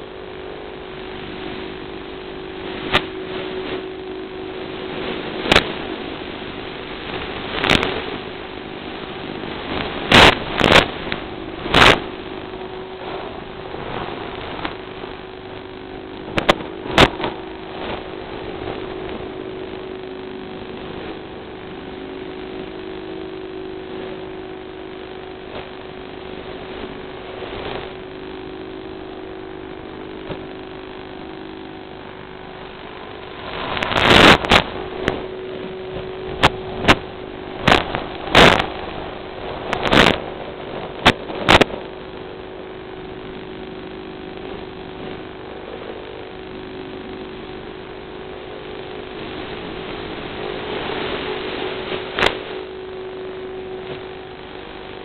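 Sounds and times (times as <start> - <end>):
drone motors humming: 0.0 - 55.0
radio static crackles: 0.0 - 55.0.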